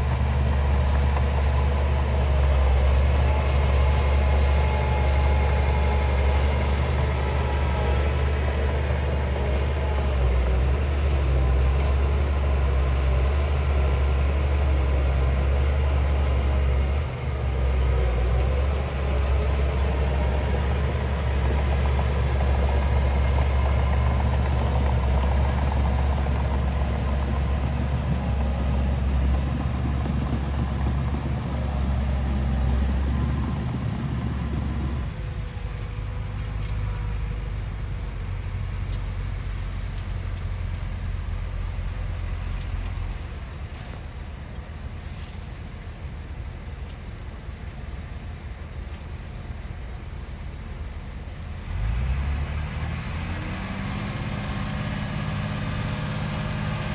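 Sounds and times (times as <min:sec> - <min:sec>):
heavy diesel engine droning: 0:00.0 - 0:56.9.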